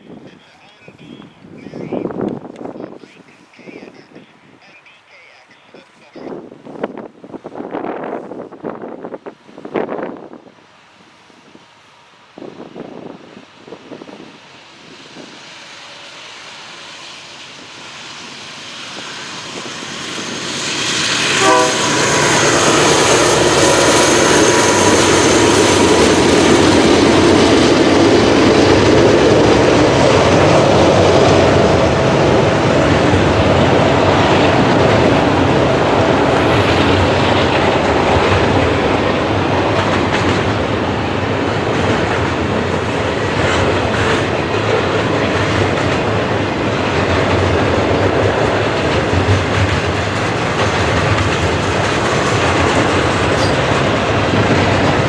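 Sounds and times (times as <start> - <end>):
diesel locomotives passing: 0.0 - 55.0
train rumble and wheel clatter: 0.0 - 55.0.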